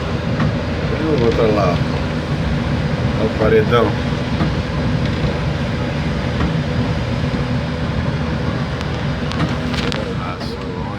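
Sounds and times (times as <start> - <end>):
boat engine rumbling: 0.0 - 10.9.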